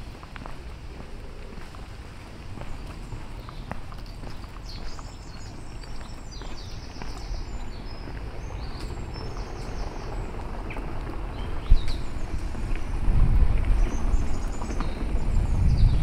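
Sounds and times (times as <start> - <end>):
low city rumble: 0.0 - 16.0
small birds chirping: 0.0 - 16.0.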